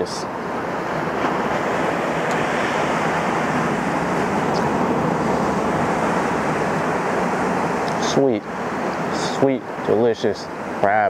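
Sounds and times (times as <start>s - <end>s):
ocean surf breaking on rocks: 0.0s - 11.0s.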